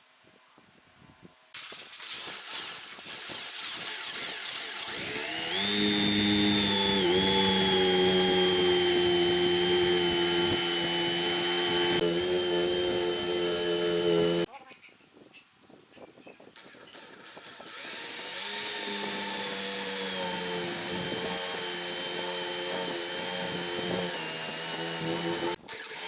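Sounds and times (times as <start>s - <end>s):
electric power tool whining: 1.6s - 14.5s, 16.6s - 26.0s.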